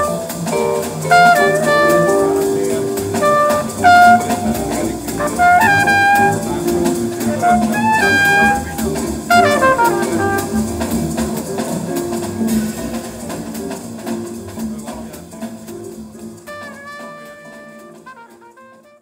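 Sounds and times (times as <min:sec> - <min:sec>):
big-band jazz over loudspeakers: 0:00.0 - 0:19.0.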